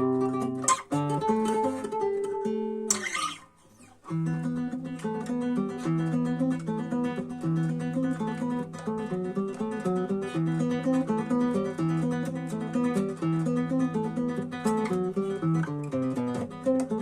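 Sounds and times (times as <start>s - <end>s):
classical guitar playing: 0.0s - 17.0s.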